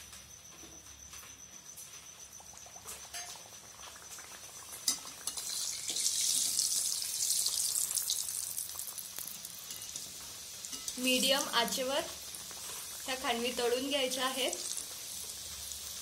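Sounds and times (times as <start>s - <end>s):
pastry sizzling in hot oil: 2.4s - 16.0s.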